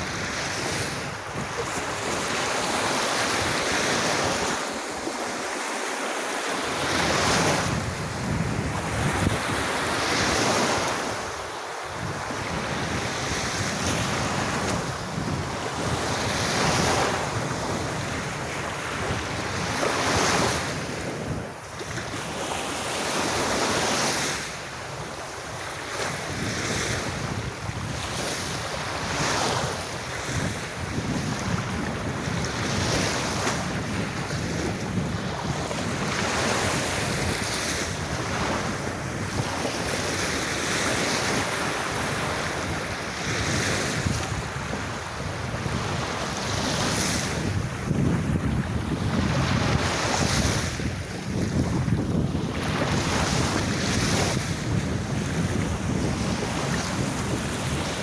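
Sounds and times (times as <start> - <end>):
wind buffeting microphone: 0.0 - 5.6, 6.6 - 58.0
sea waves washing onto beach: 0.0 - 58.0.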